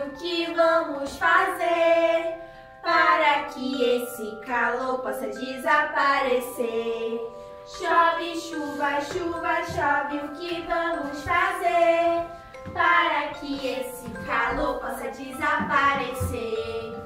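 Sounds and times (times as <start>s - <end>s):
high voices singing: 0.0s - 17.0s
musical backing: 0.0s - 17.0s.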